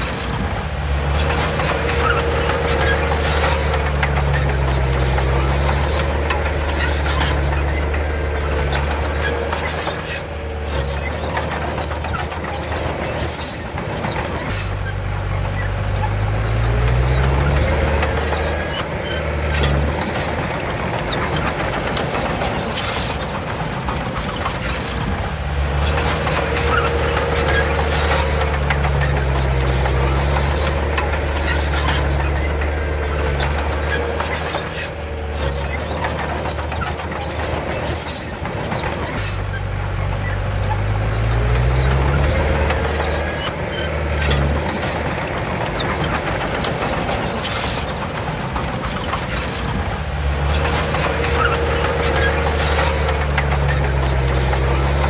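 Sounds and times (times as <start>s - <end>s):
bulldozer diesel engine: 0.0s - 55.0s
steady squeal: 0.0s - 55.0s.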